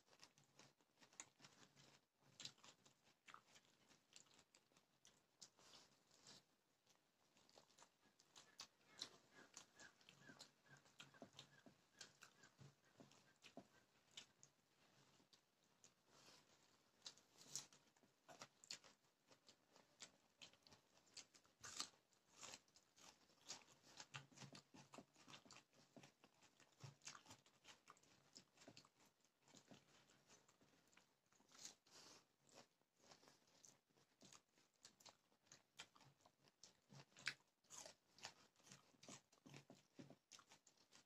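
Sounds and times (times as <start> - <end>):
person chewing and crunching food: 0.0 - 41.0.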